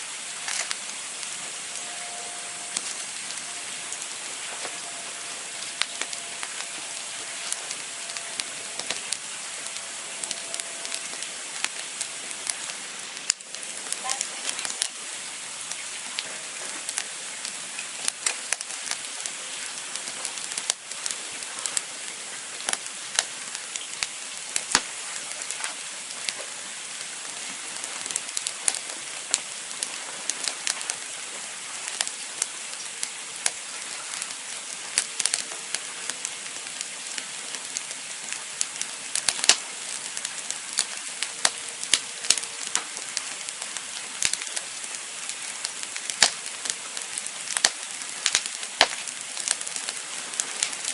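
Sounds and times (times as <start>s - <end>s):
campfire hissing: 0.0s - 50.9s
wood crackling and popping: 0.0s - 50.9s.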